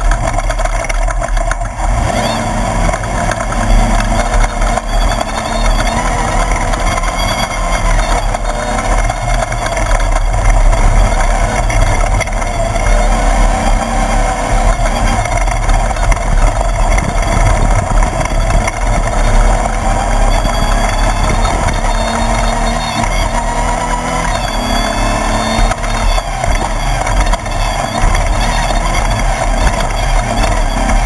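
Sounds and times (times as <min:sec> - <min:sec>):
race buggy engine at speed: 0:00.0 - 0:31.0.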